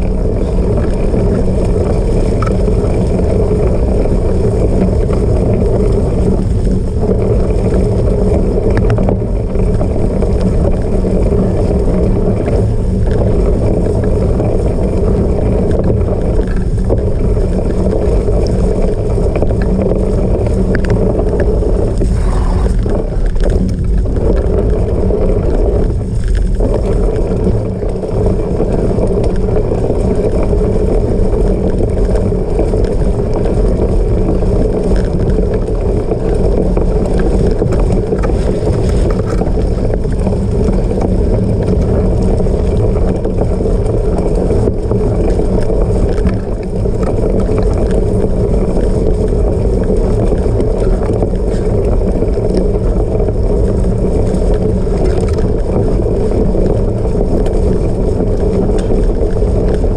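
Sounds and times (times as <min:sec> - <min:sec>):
bike tyres on rough ground: 0:00.0 - 0:59.9
wind on microphone: 0:00.0 - 0:59.9.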